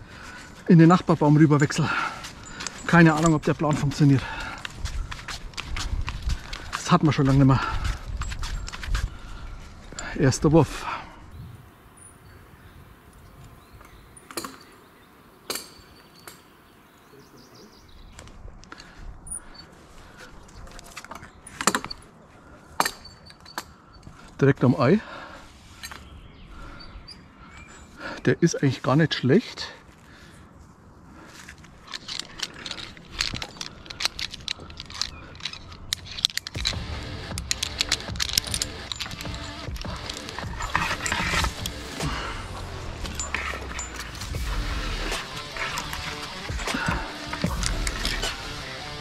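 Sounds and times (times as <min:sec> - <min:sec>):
metal climbing hardware clinking: 0:00.0 - 0:11.0, 0:12.0 - 0:16.7, 0:18.6 - 0:24.8, 0:25.8 - 0:28.0, 0:31.4 - 0:49.0.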